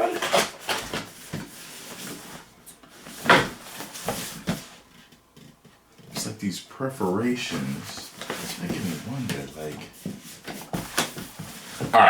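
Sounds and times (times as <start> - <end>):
cardboard packaging rustling: 0.0 - 6.4, 7.1 - 12.0.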